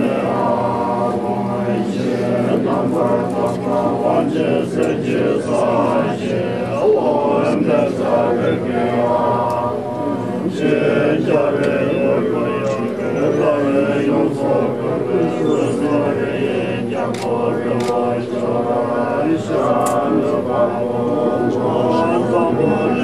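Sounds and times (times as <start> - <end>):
men chanting in unison: 0.0 - 23.0
sustained drone: 0.0 - 23.0.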